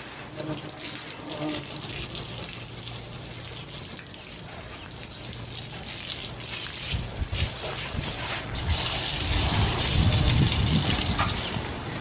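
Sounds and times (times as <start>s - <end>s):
running water splashing: 0.0s - 12.0s.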